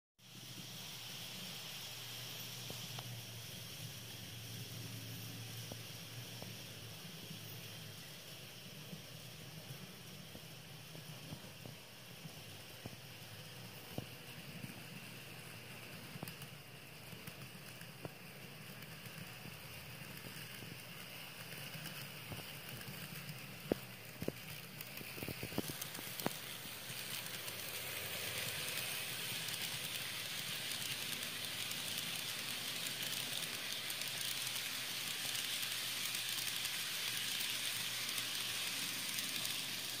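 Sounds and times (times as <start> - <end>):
model train rolling hiss: 0.2 - 40.0
wheels clicking on rail joints: 0.4 - 40.0.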